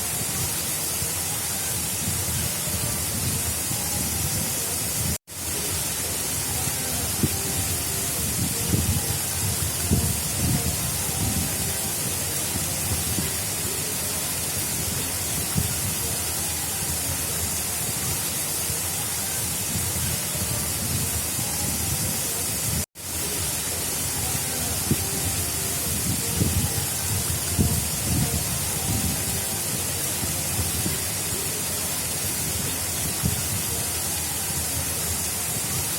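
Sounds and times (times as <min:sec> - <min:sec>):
water rushing: 0:00.0 - 0:35.9.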